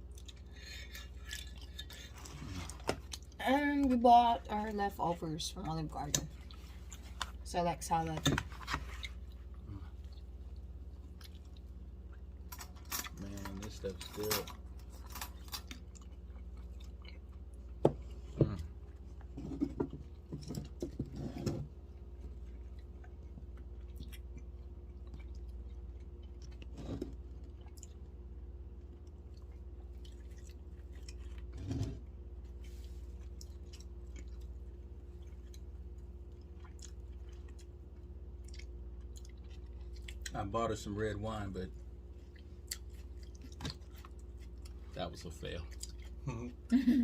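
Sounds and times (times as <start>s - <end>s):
person chewing food: 0.0s - 3.4s, 6.1s - 7.4s, 8.5s - 40.4s, 41.8s - 46.7s
steady low hum: 0.0s - 47.0s.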